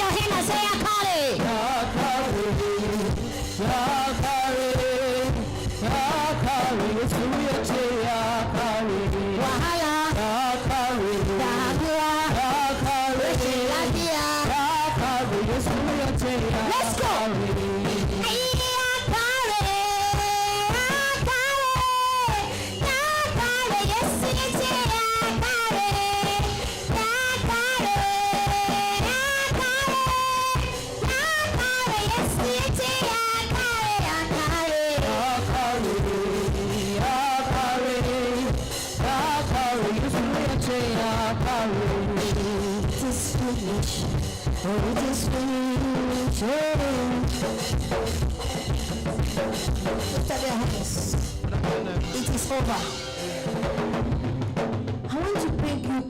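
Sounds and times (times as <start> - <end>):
people singing: 0.0 - 49.6
drum kit: 0.0 - 56.0
worship band playing: 0.0 - 56.0.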